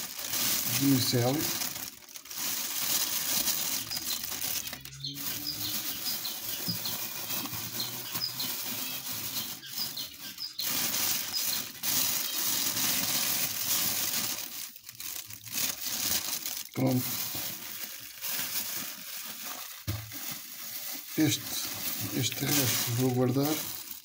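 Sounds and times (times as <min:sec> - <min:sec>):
plastic bag rustling and crinkling: 0:00.0 - 0:24.0.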